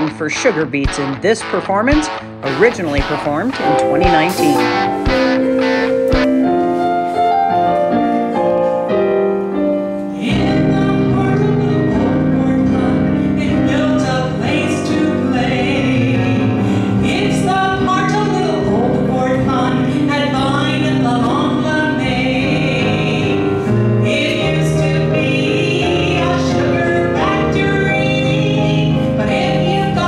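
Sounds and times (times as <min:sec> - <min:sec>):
woman singing: 0:00.0 - 0:05.2, 0:10.1 - 0:30.0
keyboard playing held chords: 0:00.0 - 0:30.0
musical accompaniment: 0:00.0 - 0:30.0.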